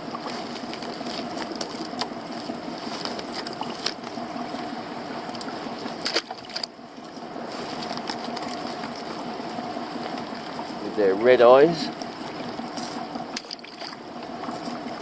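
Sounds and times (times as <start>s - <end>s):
outboard engine idling: 0.0s - 15.0s.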